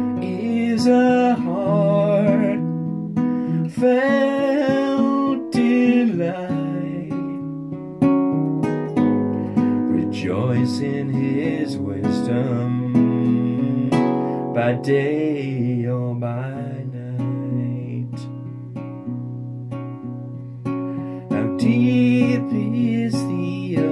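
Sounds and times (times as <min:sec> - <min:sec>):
strummed acoustic guitar: 0:00.0 - 0:23.9.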